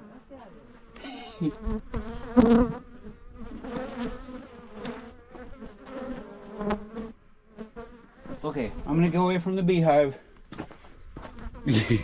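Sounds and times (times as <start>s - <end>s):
bees buzzing: 0.0s - 9.1s, 11.2s - 12.0s.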